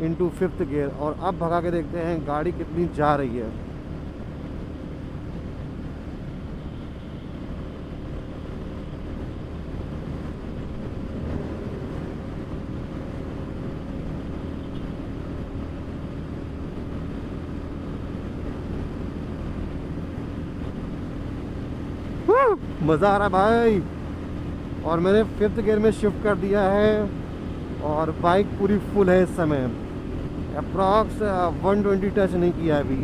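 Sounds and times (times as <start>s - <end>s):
motorcycle engine at full throttle: 0.0s - 33.0s.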